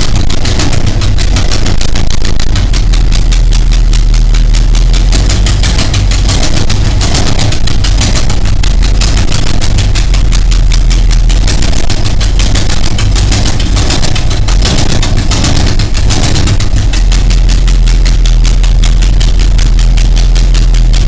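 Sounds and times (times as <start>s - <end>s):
car engine idling loudly: 0.0s - 21.0s
exhaust banging beat: 0.0s - 21.0s.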